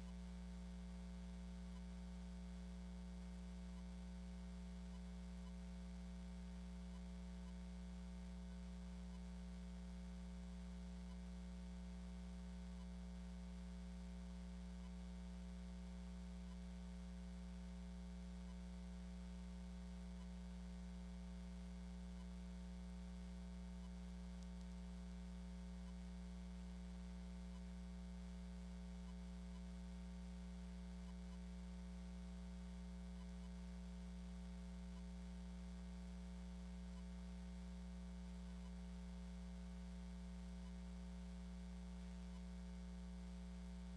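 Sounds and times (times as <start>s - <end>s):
electrical mains hum: 0.0s - 43.9s.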